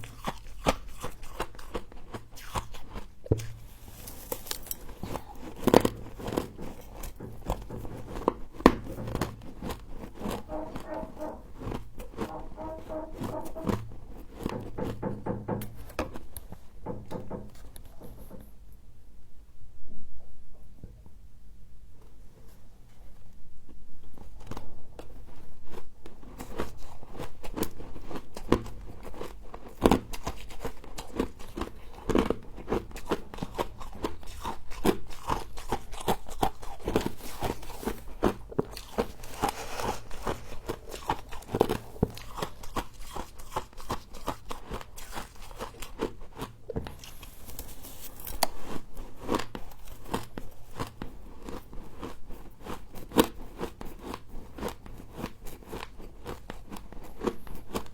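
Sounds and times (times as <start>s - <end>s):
crunching and chewing frost: 0.0s - 16.8s, 23.7s - 57.9s.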